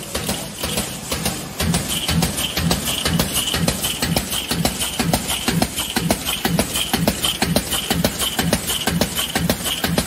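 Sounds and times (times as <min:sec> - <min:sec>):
punch press running: 0:00.0 - 0:10.0
punched caps clicking and rattling: 0:00.0 - 0:10.0.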